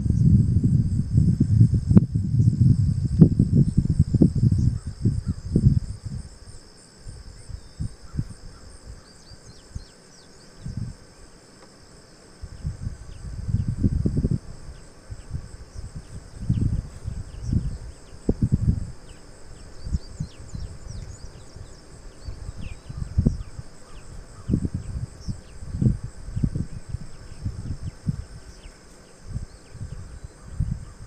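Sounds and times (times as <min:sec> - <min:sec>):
wind buffeting microphone: 0:00.0 - 0:06.5, 0:07.1 - 0:09.0, 0:10.6 - 0:11.1, 0:12.4 - 0:31.0
insects chirping: 0:00.0 - 0:31.0.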